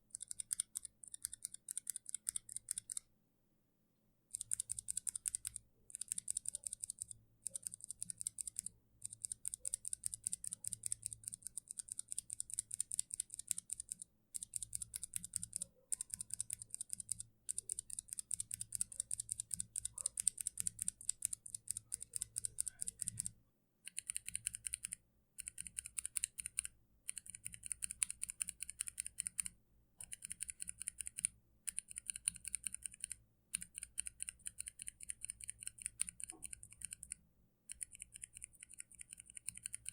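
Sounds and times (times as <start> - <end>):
mechanical keyboard typing: 0.0 - 3.1, 4.3 - 39.9.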